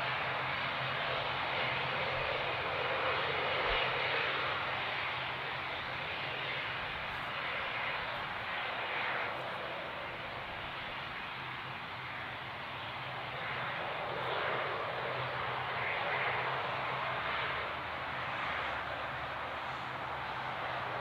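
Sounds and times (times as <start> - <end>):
turboprop engines droning: 0.0 - 21.0.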